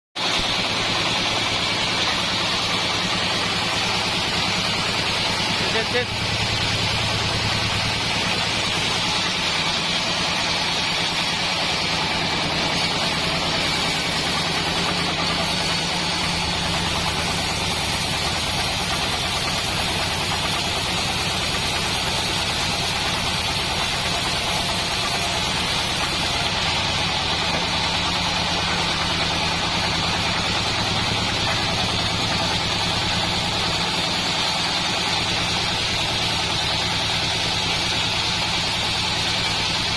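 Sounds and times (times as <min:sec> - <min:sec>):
sawmill running: 0:00.2 - 0:39.9.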